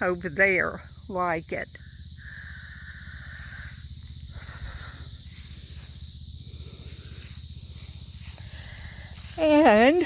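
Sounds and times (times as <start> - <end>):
crickets chirping: 0.0 - 10.0
low steady rumble: 0.0 - 10.0.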